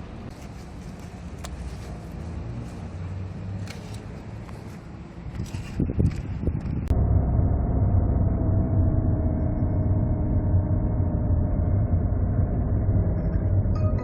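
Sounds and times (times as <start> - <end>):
engine and road rumble in car: 0.0 - 14.0.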